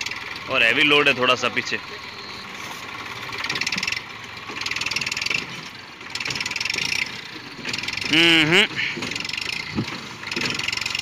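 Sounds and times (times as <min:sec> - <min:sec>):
tractor diesel engine labouring: 0:00.0 - 0:11.0.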